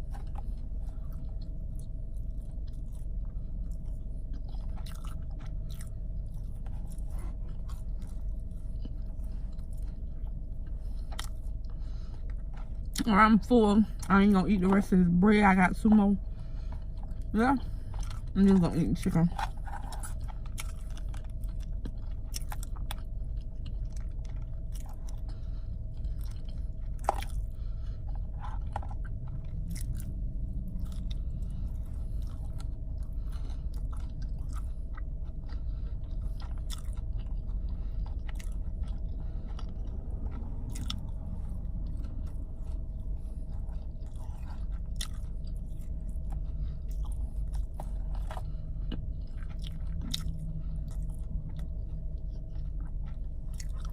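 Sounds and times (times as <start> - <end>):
person chewing food: 0.0 - 13.1, 15.9 - 53.9
low hum: 0.0 - 53.9.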